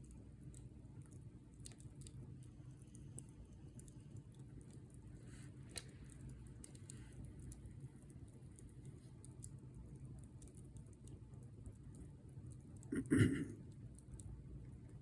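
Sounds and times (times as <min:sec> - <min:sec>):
campfire wood crackling: 0:00.0 - 0:13.0.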